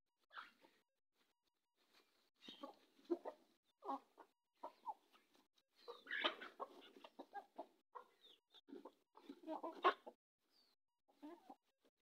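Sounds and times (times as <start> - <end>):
chickens clucking: 0.3 - 0.8, 2.4 - 11.6.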